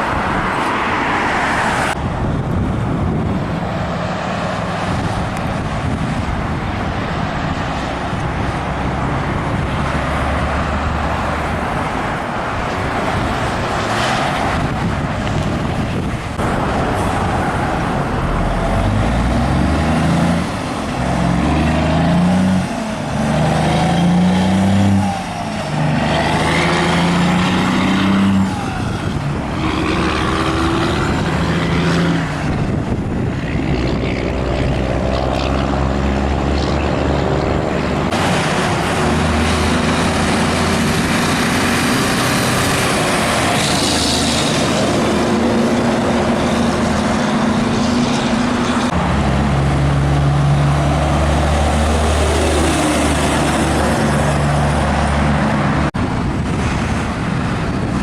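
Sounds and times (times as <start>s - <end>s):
road and tyre noise: 0.0s - 58.0s
truck diesel engine shifting gears: 0.0s - 58.0s.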